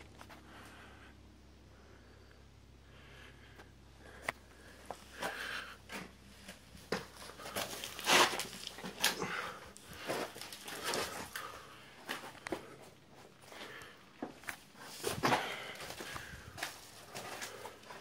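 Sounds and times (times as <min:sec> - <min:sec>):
breathy rustles: 0:03.0 - 0:18.0.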